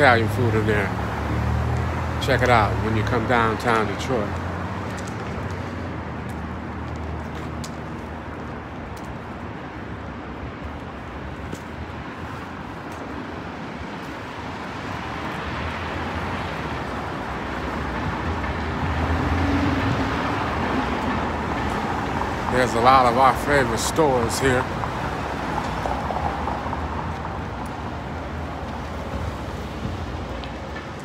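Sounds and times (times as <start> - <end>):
passing cars rumble: 0.0 - 31.0.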